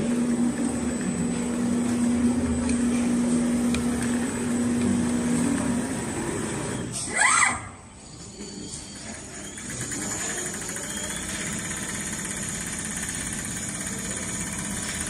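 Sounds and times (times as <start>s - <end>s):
sewing machine humming: 0.0s - 6.9s, 9.0s - 15.0s.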